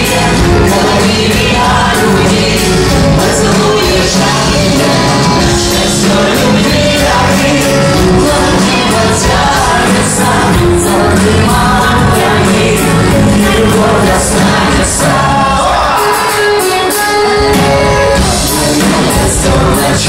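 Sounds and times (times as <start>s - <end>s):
instrumental accompaniment with bass: 0.0s - 20.0s
voices singing together: 0.0s - 20.0s.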